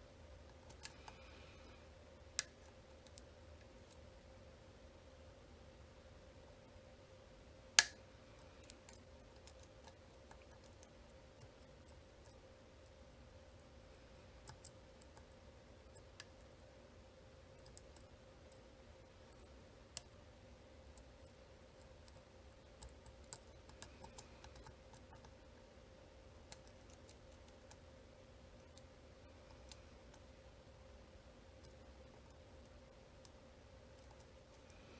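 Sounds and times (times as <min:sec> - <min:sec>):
faint hum: 0:00.0 - 0:34.9.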